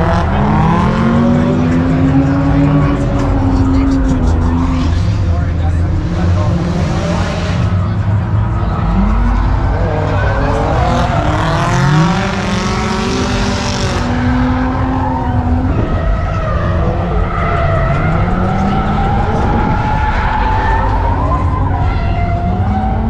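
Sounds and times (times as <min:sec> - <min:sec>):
busy car meet noise: 0:00.0 - 0:23.0
car engines revving: 0:00.0 - 0:23.0
tires squealing and skidding: 0:00.0 - 0:23.0.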